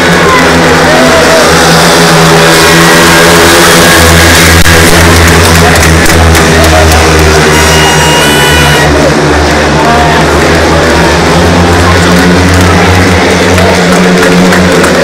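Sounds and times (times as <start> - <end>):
motorcycles racing: 0.0 - 15.0.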